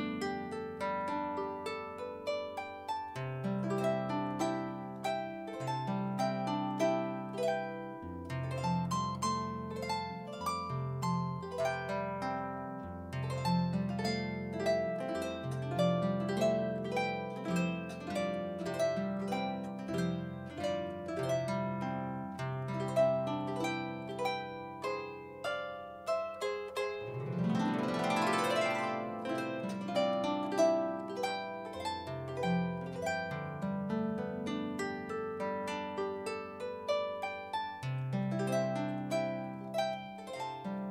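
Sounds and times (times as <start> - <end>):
solo harp playing: 0.0 - 40.9.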